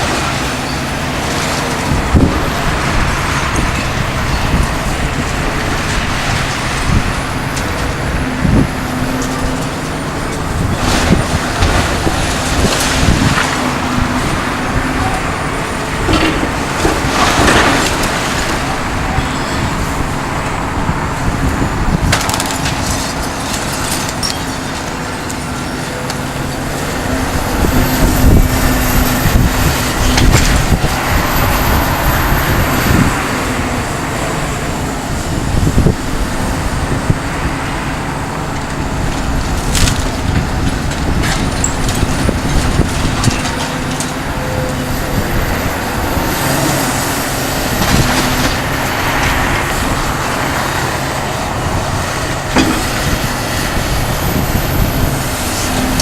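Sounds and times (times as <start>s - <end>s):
debris crashing and cracking: 0.0s - 33.4s, 38.6s - 56.0s
excavator running under load: 0.0s - 56.0s.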